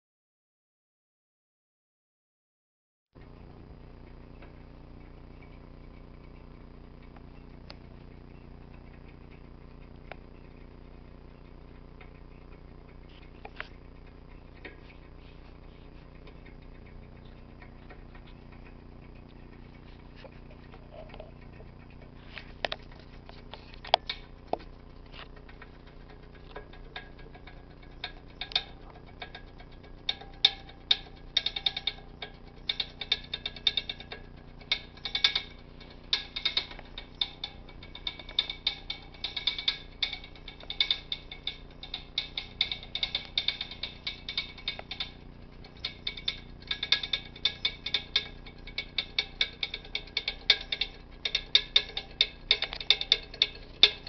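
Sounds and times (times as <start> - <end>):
radiator tapping and ticking: 3.2 - 54.0.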